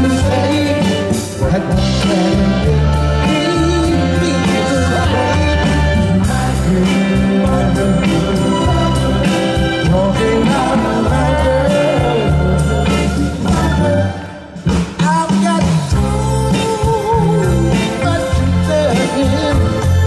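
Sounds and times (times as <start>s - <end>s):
person singing: 0.0s - 20.0s
soul band playing: 0.0s - 20.0s.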